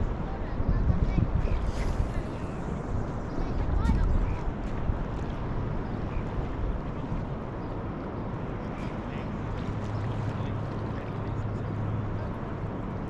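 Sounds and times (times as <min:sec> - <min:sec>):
low engine hum: 0:00.0 - 0:13.0
wind noise on microphone: 0:00.0 - 0:13.0.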